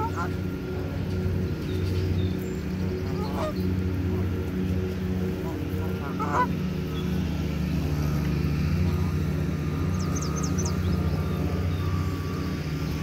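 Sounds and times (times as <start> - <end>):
traffic engine drone: 0.0 - 13.0.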